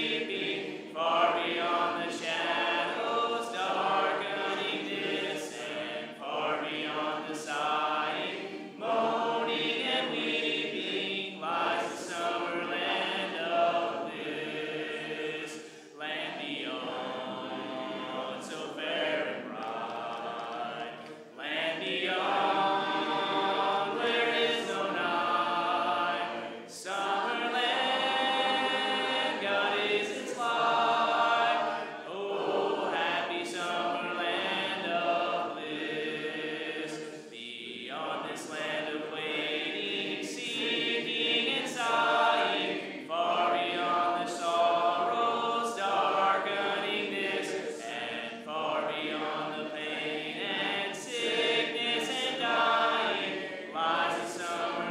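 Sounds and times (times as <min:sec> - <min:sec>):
congregation singing a hymn: 0:00.0 - 0:54.9.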